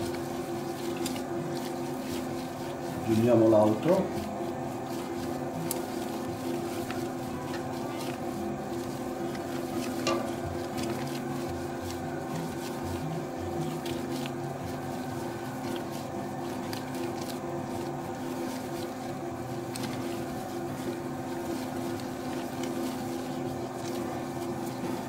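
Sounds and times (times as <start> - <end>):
dough mixer motor hum: 0.0 - 25.0.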